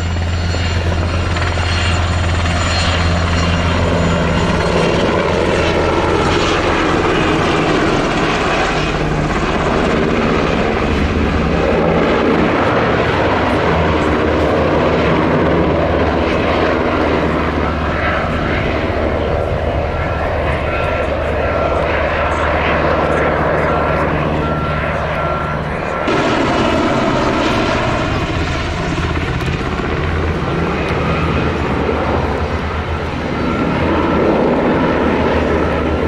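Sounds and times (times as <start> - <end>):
helicopter rotor and engine drone: 0.0 - 36.0.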